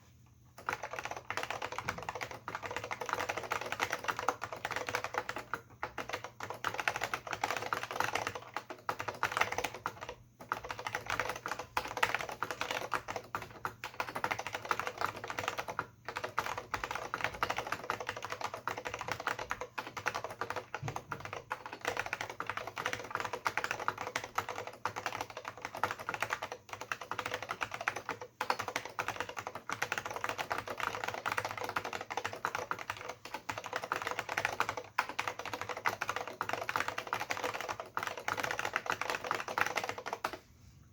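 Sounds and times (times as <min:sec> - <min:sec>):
fast keyboard typing: 0:00.0 - 0:40.4.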